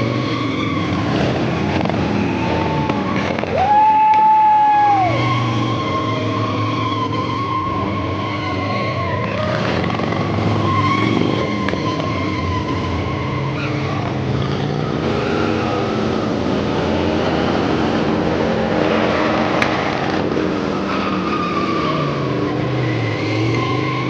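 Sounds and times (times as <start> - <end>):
motorcycle engine revving: 0.0 - 3.6, 4.9 - 24.0.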